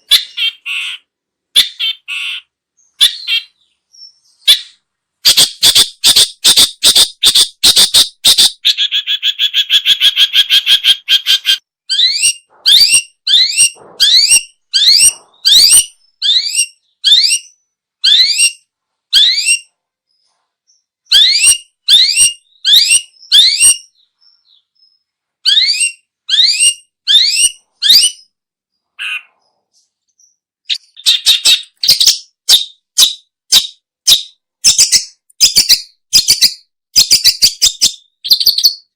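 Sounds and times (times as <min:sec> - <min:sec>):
bird harsh calls: 0:00.0 - 0:38.9.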